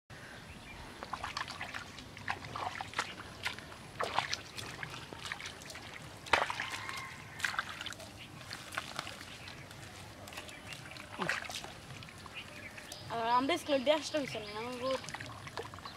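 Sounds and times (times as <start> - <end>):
mud and water squelching: 0.8 - 15.9
clicks and splashes: 1.0 - 13.1, 14.1 - 15.9.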